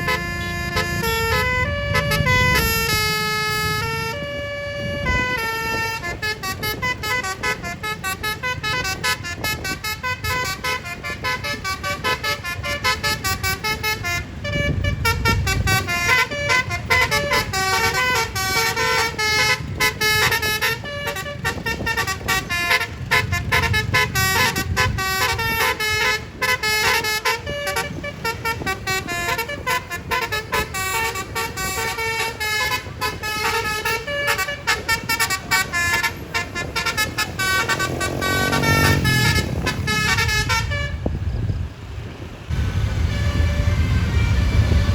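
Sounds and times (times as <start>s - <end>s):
bus horn playing melody: 0.0s - 41.7s, 42.5s - 44.9s.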